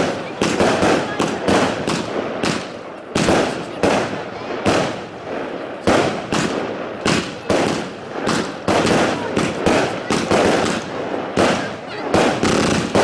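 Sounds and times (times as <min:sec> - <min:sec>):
fireworks bangs echoing: 0:00.0 - 0:13.0.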